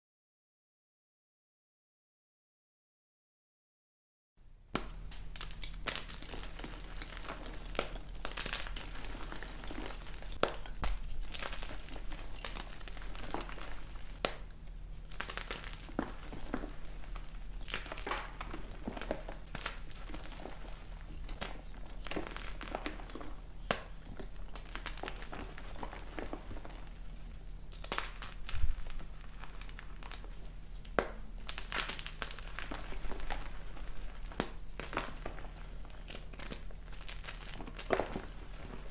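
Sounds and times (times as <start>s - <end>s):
chalk blocks crushed by hand: 4.8s - 38.9s
chalk cracking and snapping: 4.8s - 38.9s.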